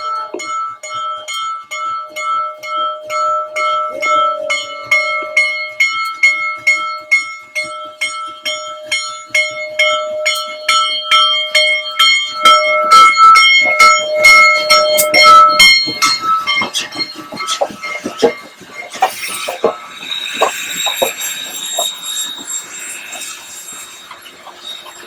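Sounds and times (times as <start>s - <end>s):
steam locomotive bell ringing: 0.0s - 25.0s.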